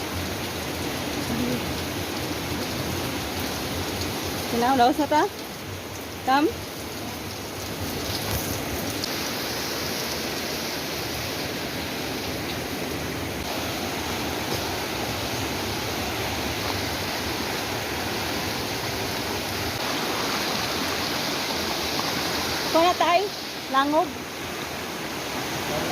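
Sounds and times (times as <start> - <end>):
rushing water: 0.0 - 25.9.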